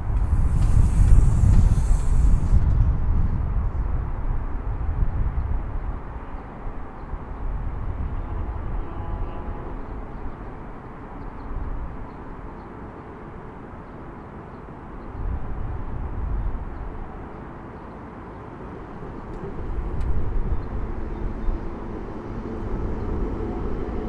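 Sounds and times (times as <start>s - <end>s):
road traffic rumble: 0.0s - 5.0s, 5.9s - 24.0s.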